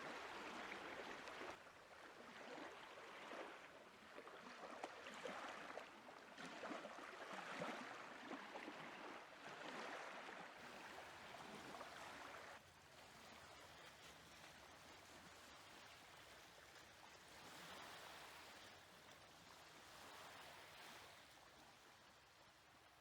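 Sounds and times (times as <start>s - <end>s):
lake waves lapping at shore: 0.0s - 22.9s.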